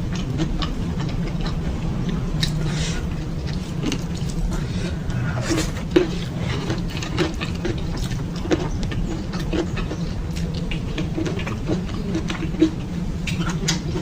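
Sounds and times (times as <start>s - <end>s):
steady low hum: 0.0s - 14.0s
chewing with wet mouth clicks: 0.1s - 14.0s.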